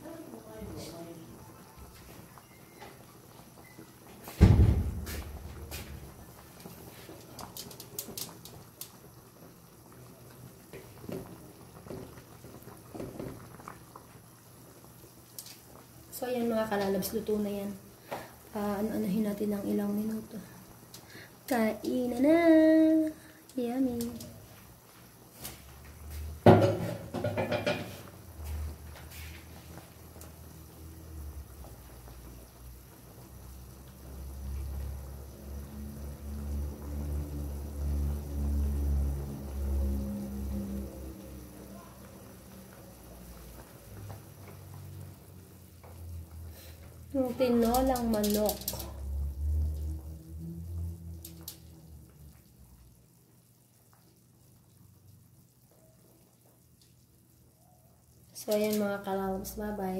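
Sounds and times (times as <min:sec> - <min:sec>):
soup bubbling: 0:02.2 - 0:59.3.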